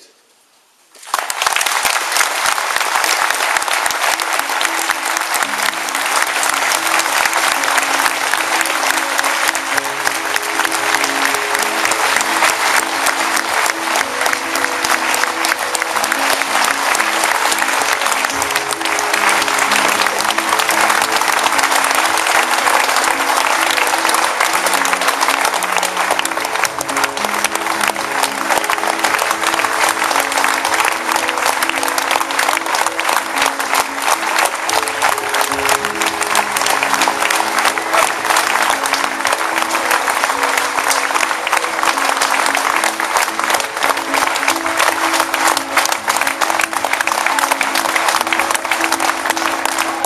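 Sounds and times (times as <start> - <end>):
audience applauding: 0.9 - 50.0
music: 1.1 - 50.0.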